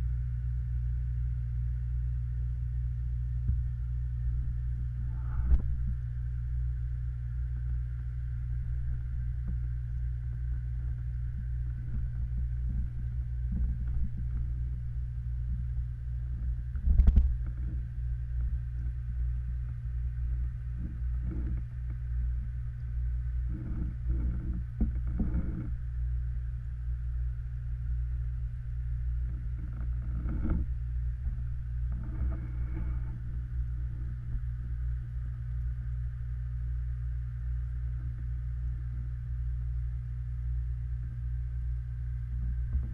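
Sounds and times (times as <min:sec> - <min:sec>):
underwater low hum: 0:00.0 - 0:42.9.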